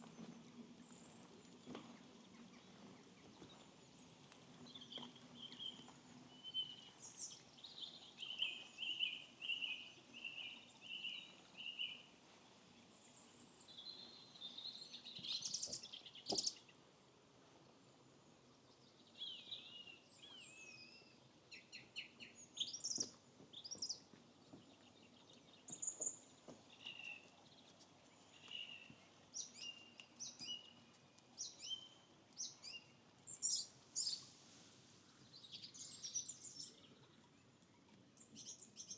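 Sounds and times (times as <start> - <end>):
small birds singing: 0.0 - 12.1, 12.8 - 16.8, 18.7 - 34.4, 35.1 - 38.9.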